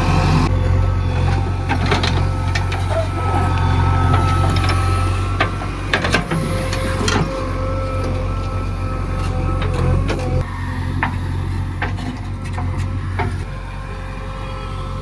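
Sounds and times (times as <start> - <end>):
diesel engine running: 0.0 - 15.0
thin steady whine: 0.0 - 15.0.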